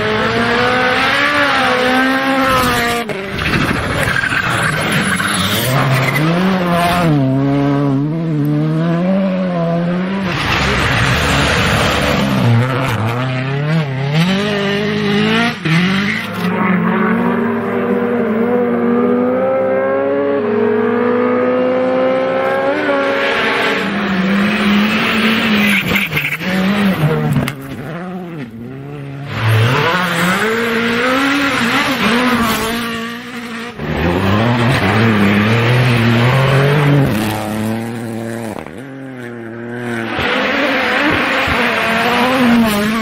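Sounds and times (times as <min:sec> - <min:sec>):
rally car engines at full throttle: 0:00.0 - 0:43.0.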